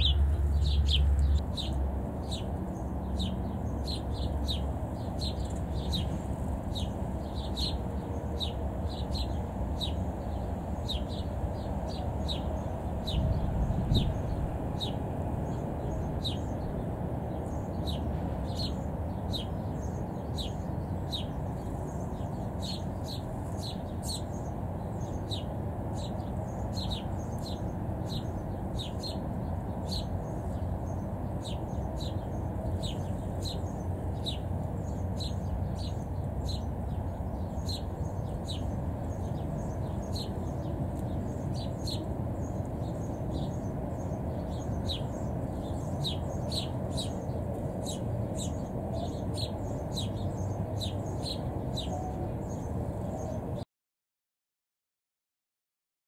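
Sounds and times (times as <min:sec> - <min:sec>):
low background rumble: 0:00.0 - 0:53.6
small birds chirping: 0:00.0 - 0:53.6.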